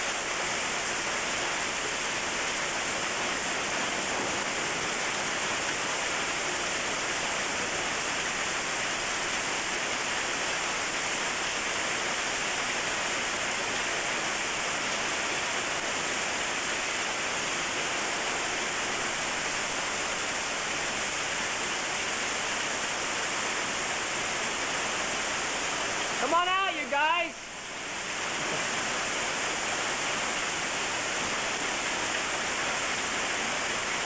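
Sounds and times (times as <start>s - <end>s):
heavy hail and rain: 0.0s - 34.0s.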